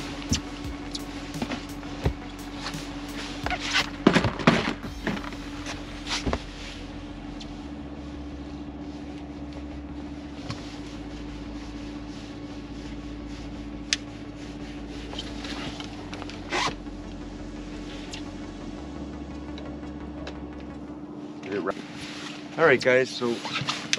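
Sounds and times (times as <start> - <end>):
outboard motor humming: 0.0 - 23.9.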